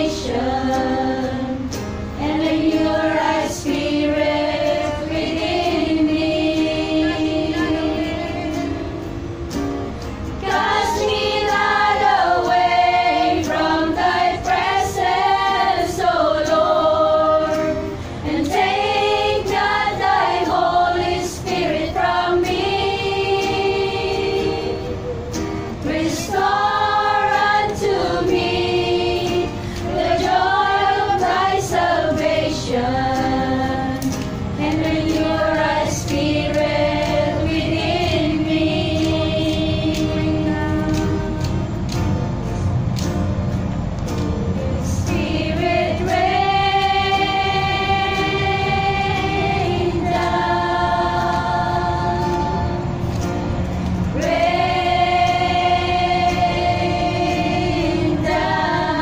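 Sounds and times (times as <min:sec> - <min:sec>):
women singing together: 0:00.0 - 0:42.2, 0:44.6 - 0:59.0
acoustic guitar: 0:00.0 - 0:59.0.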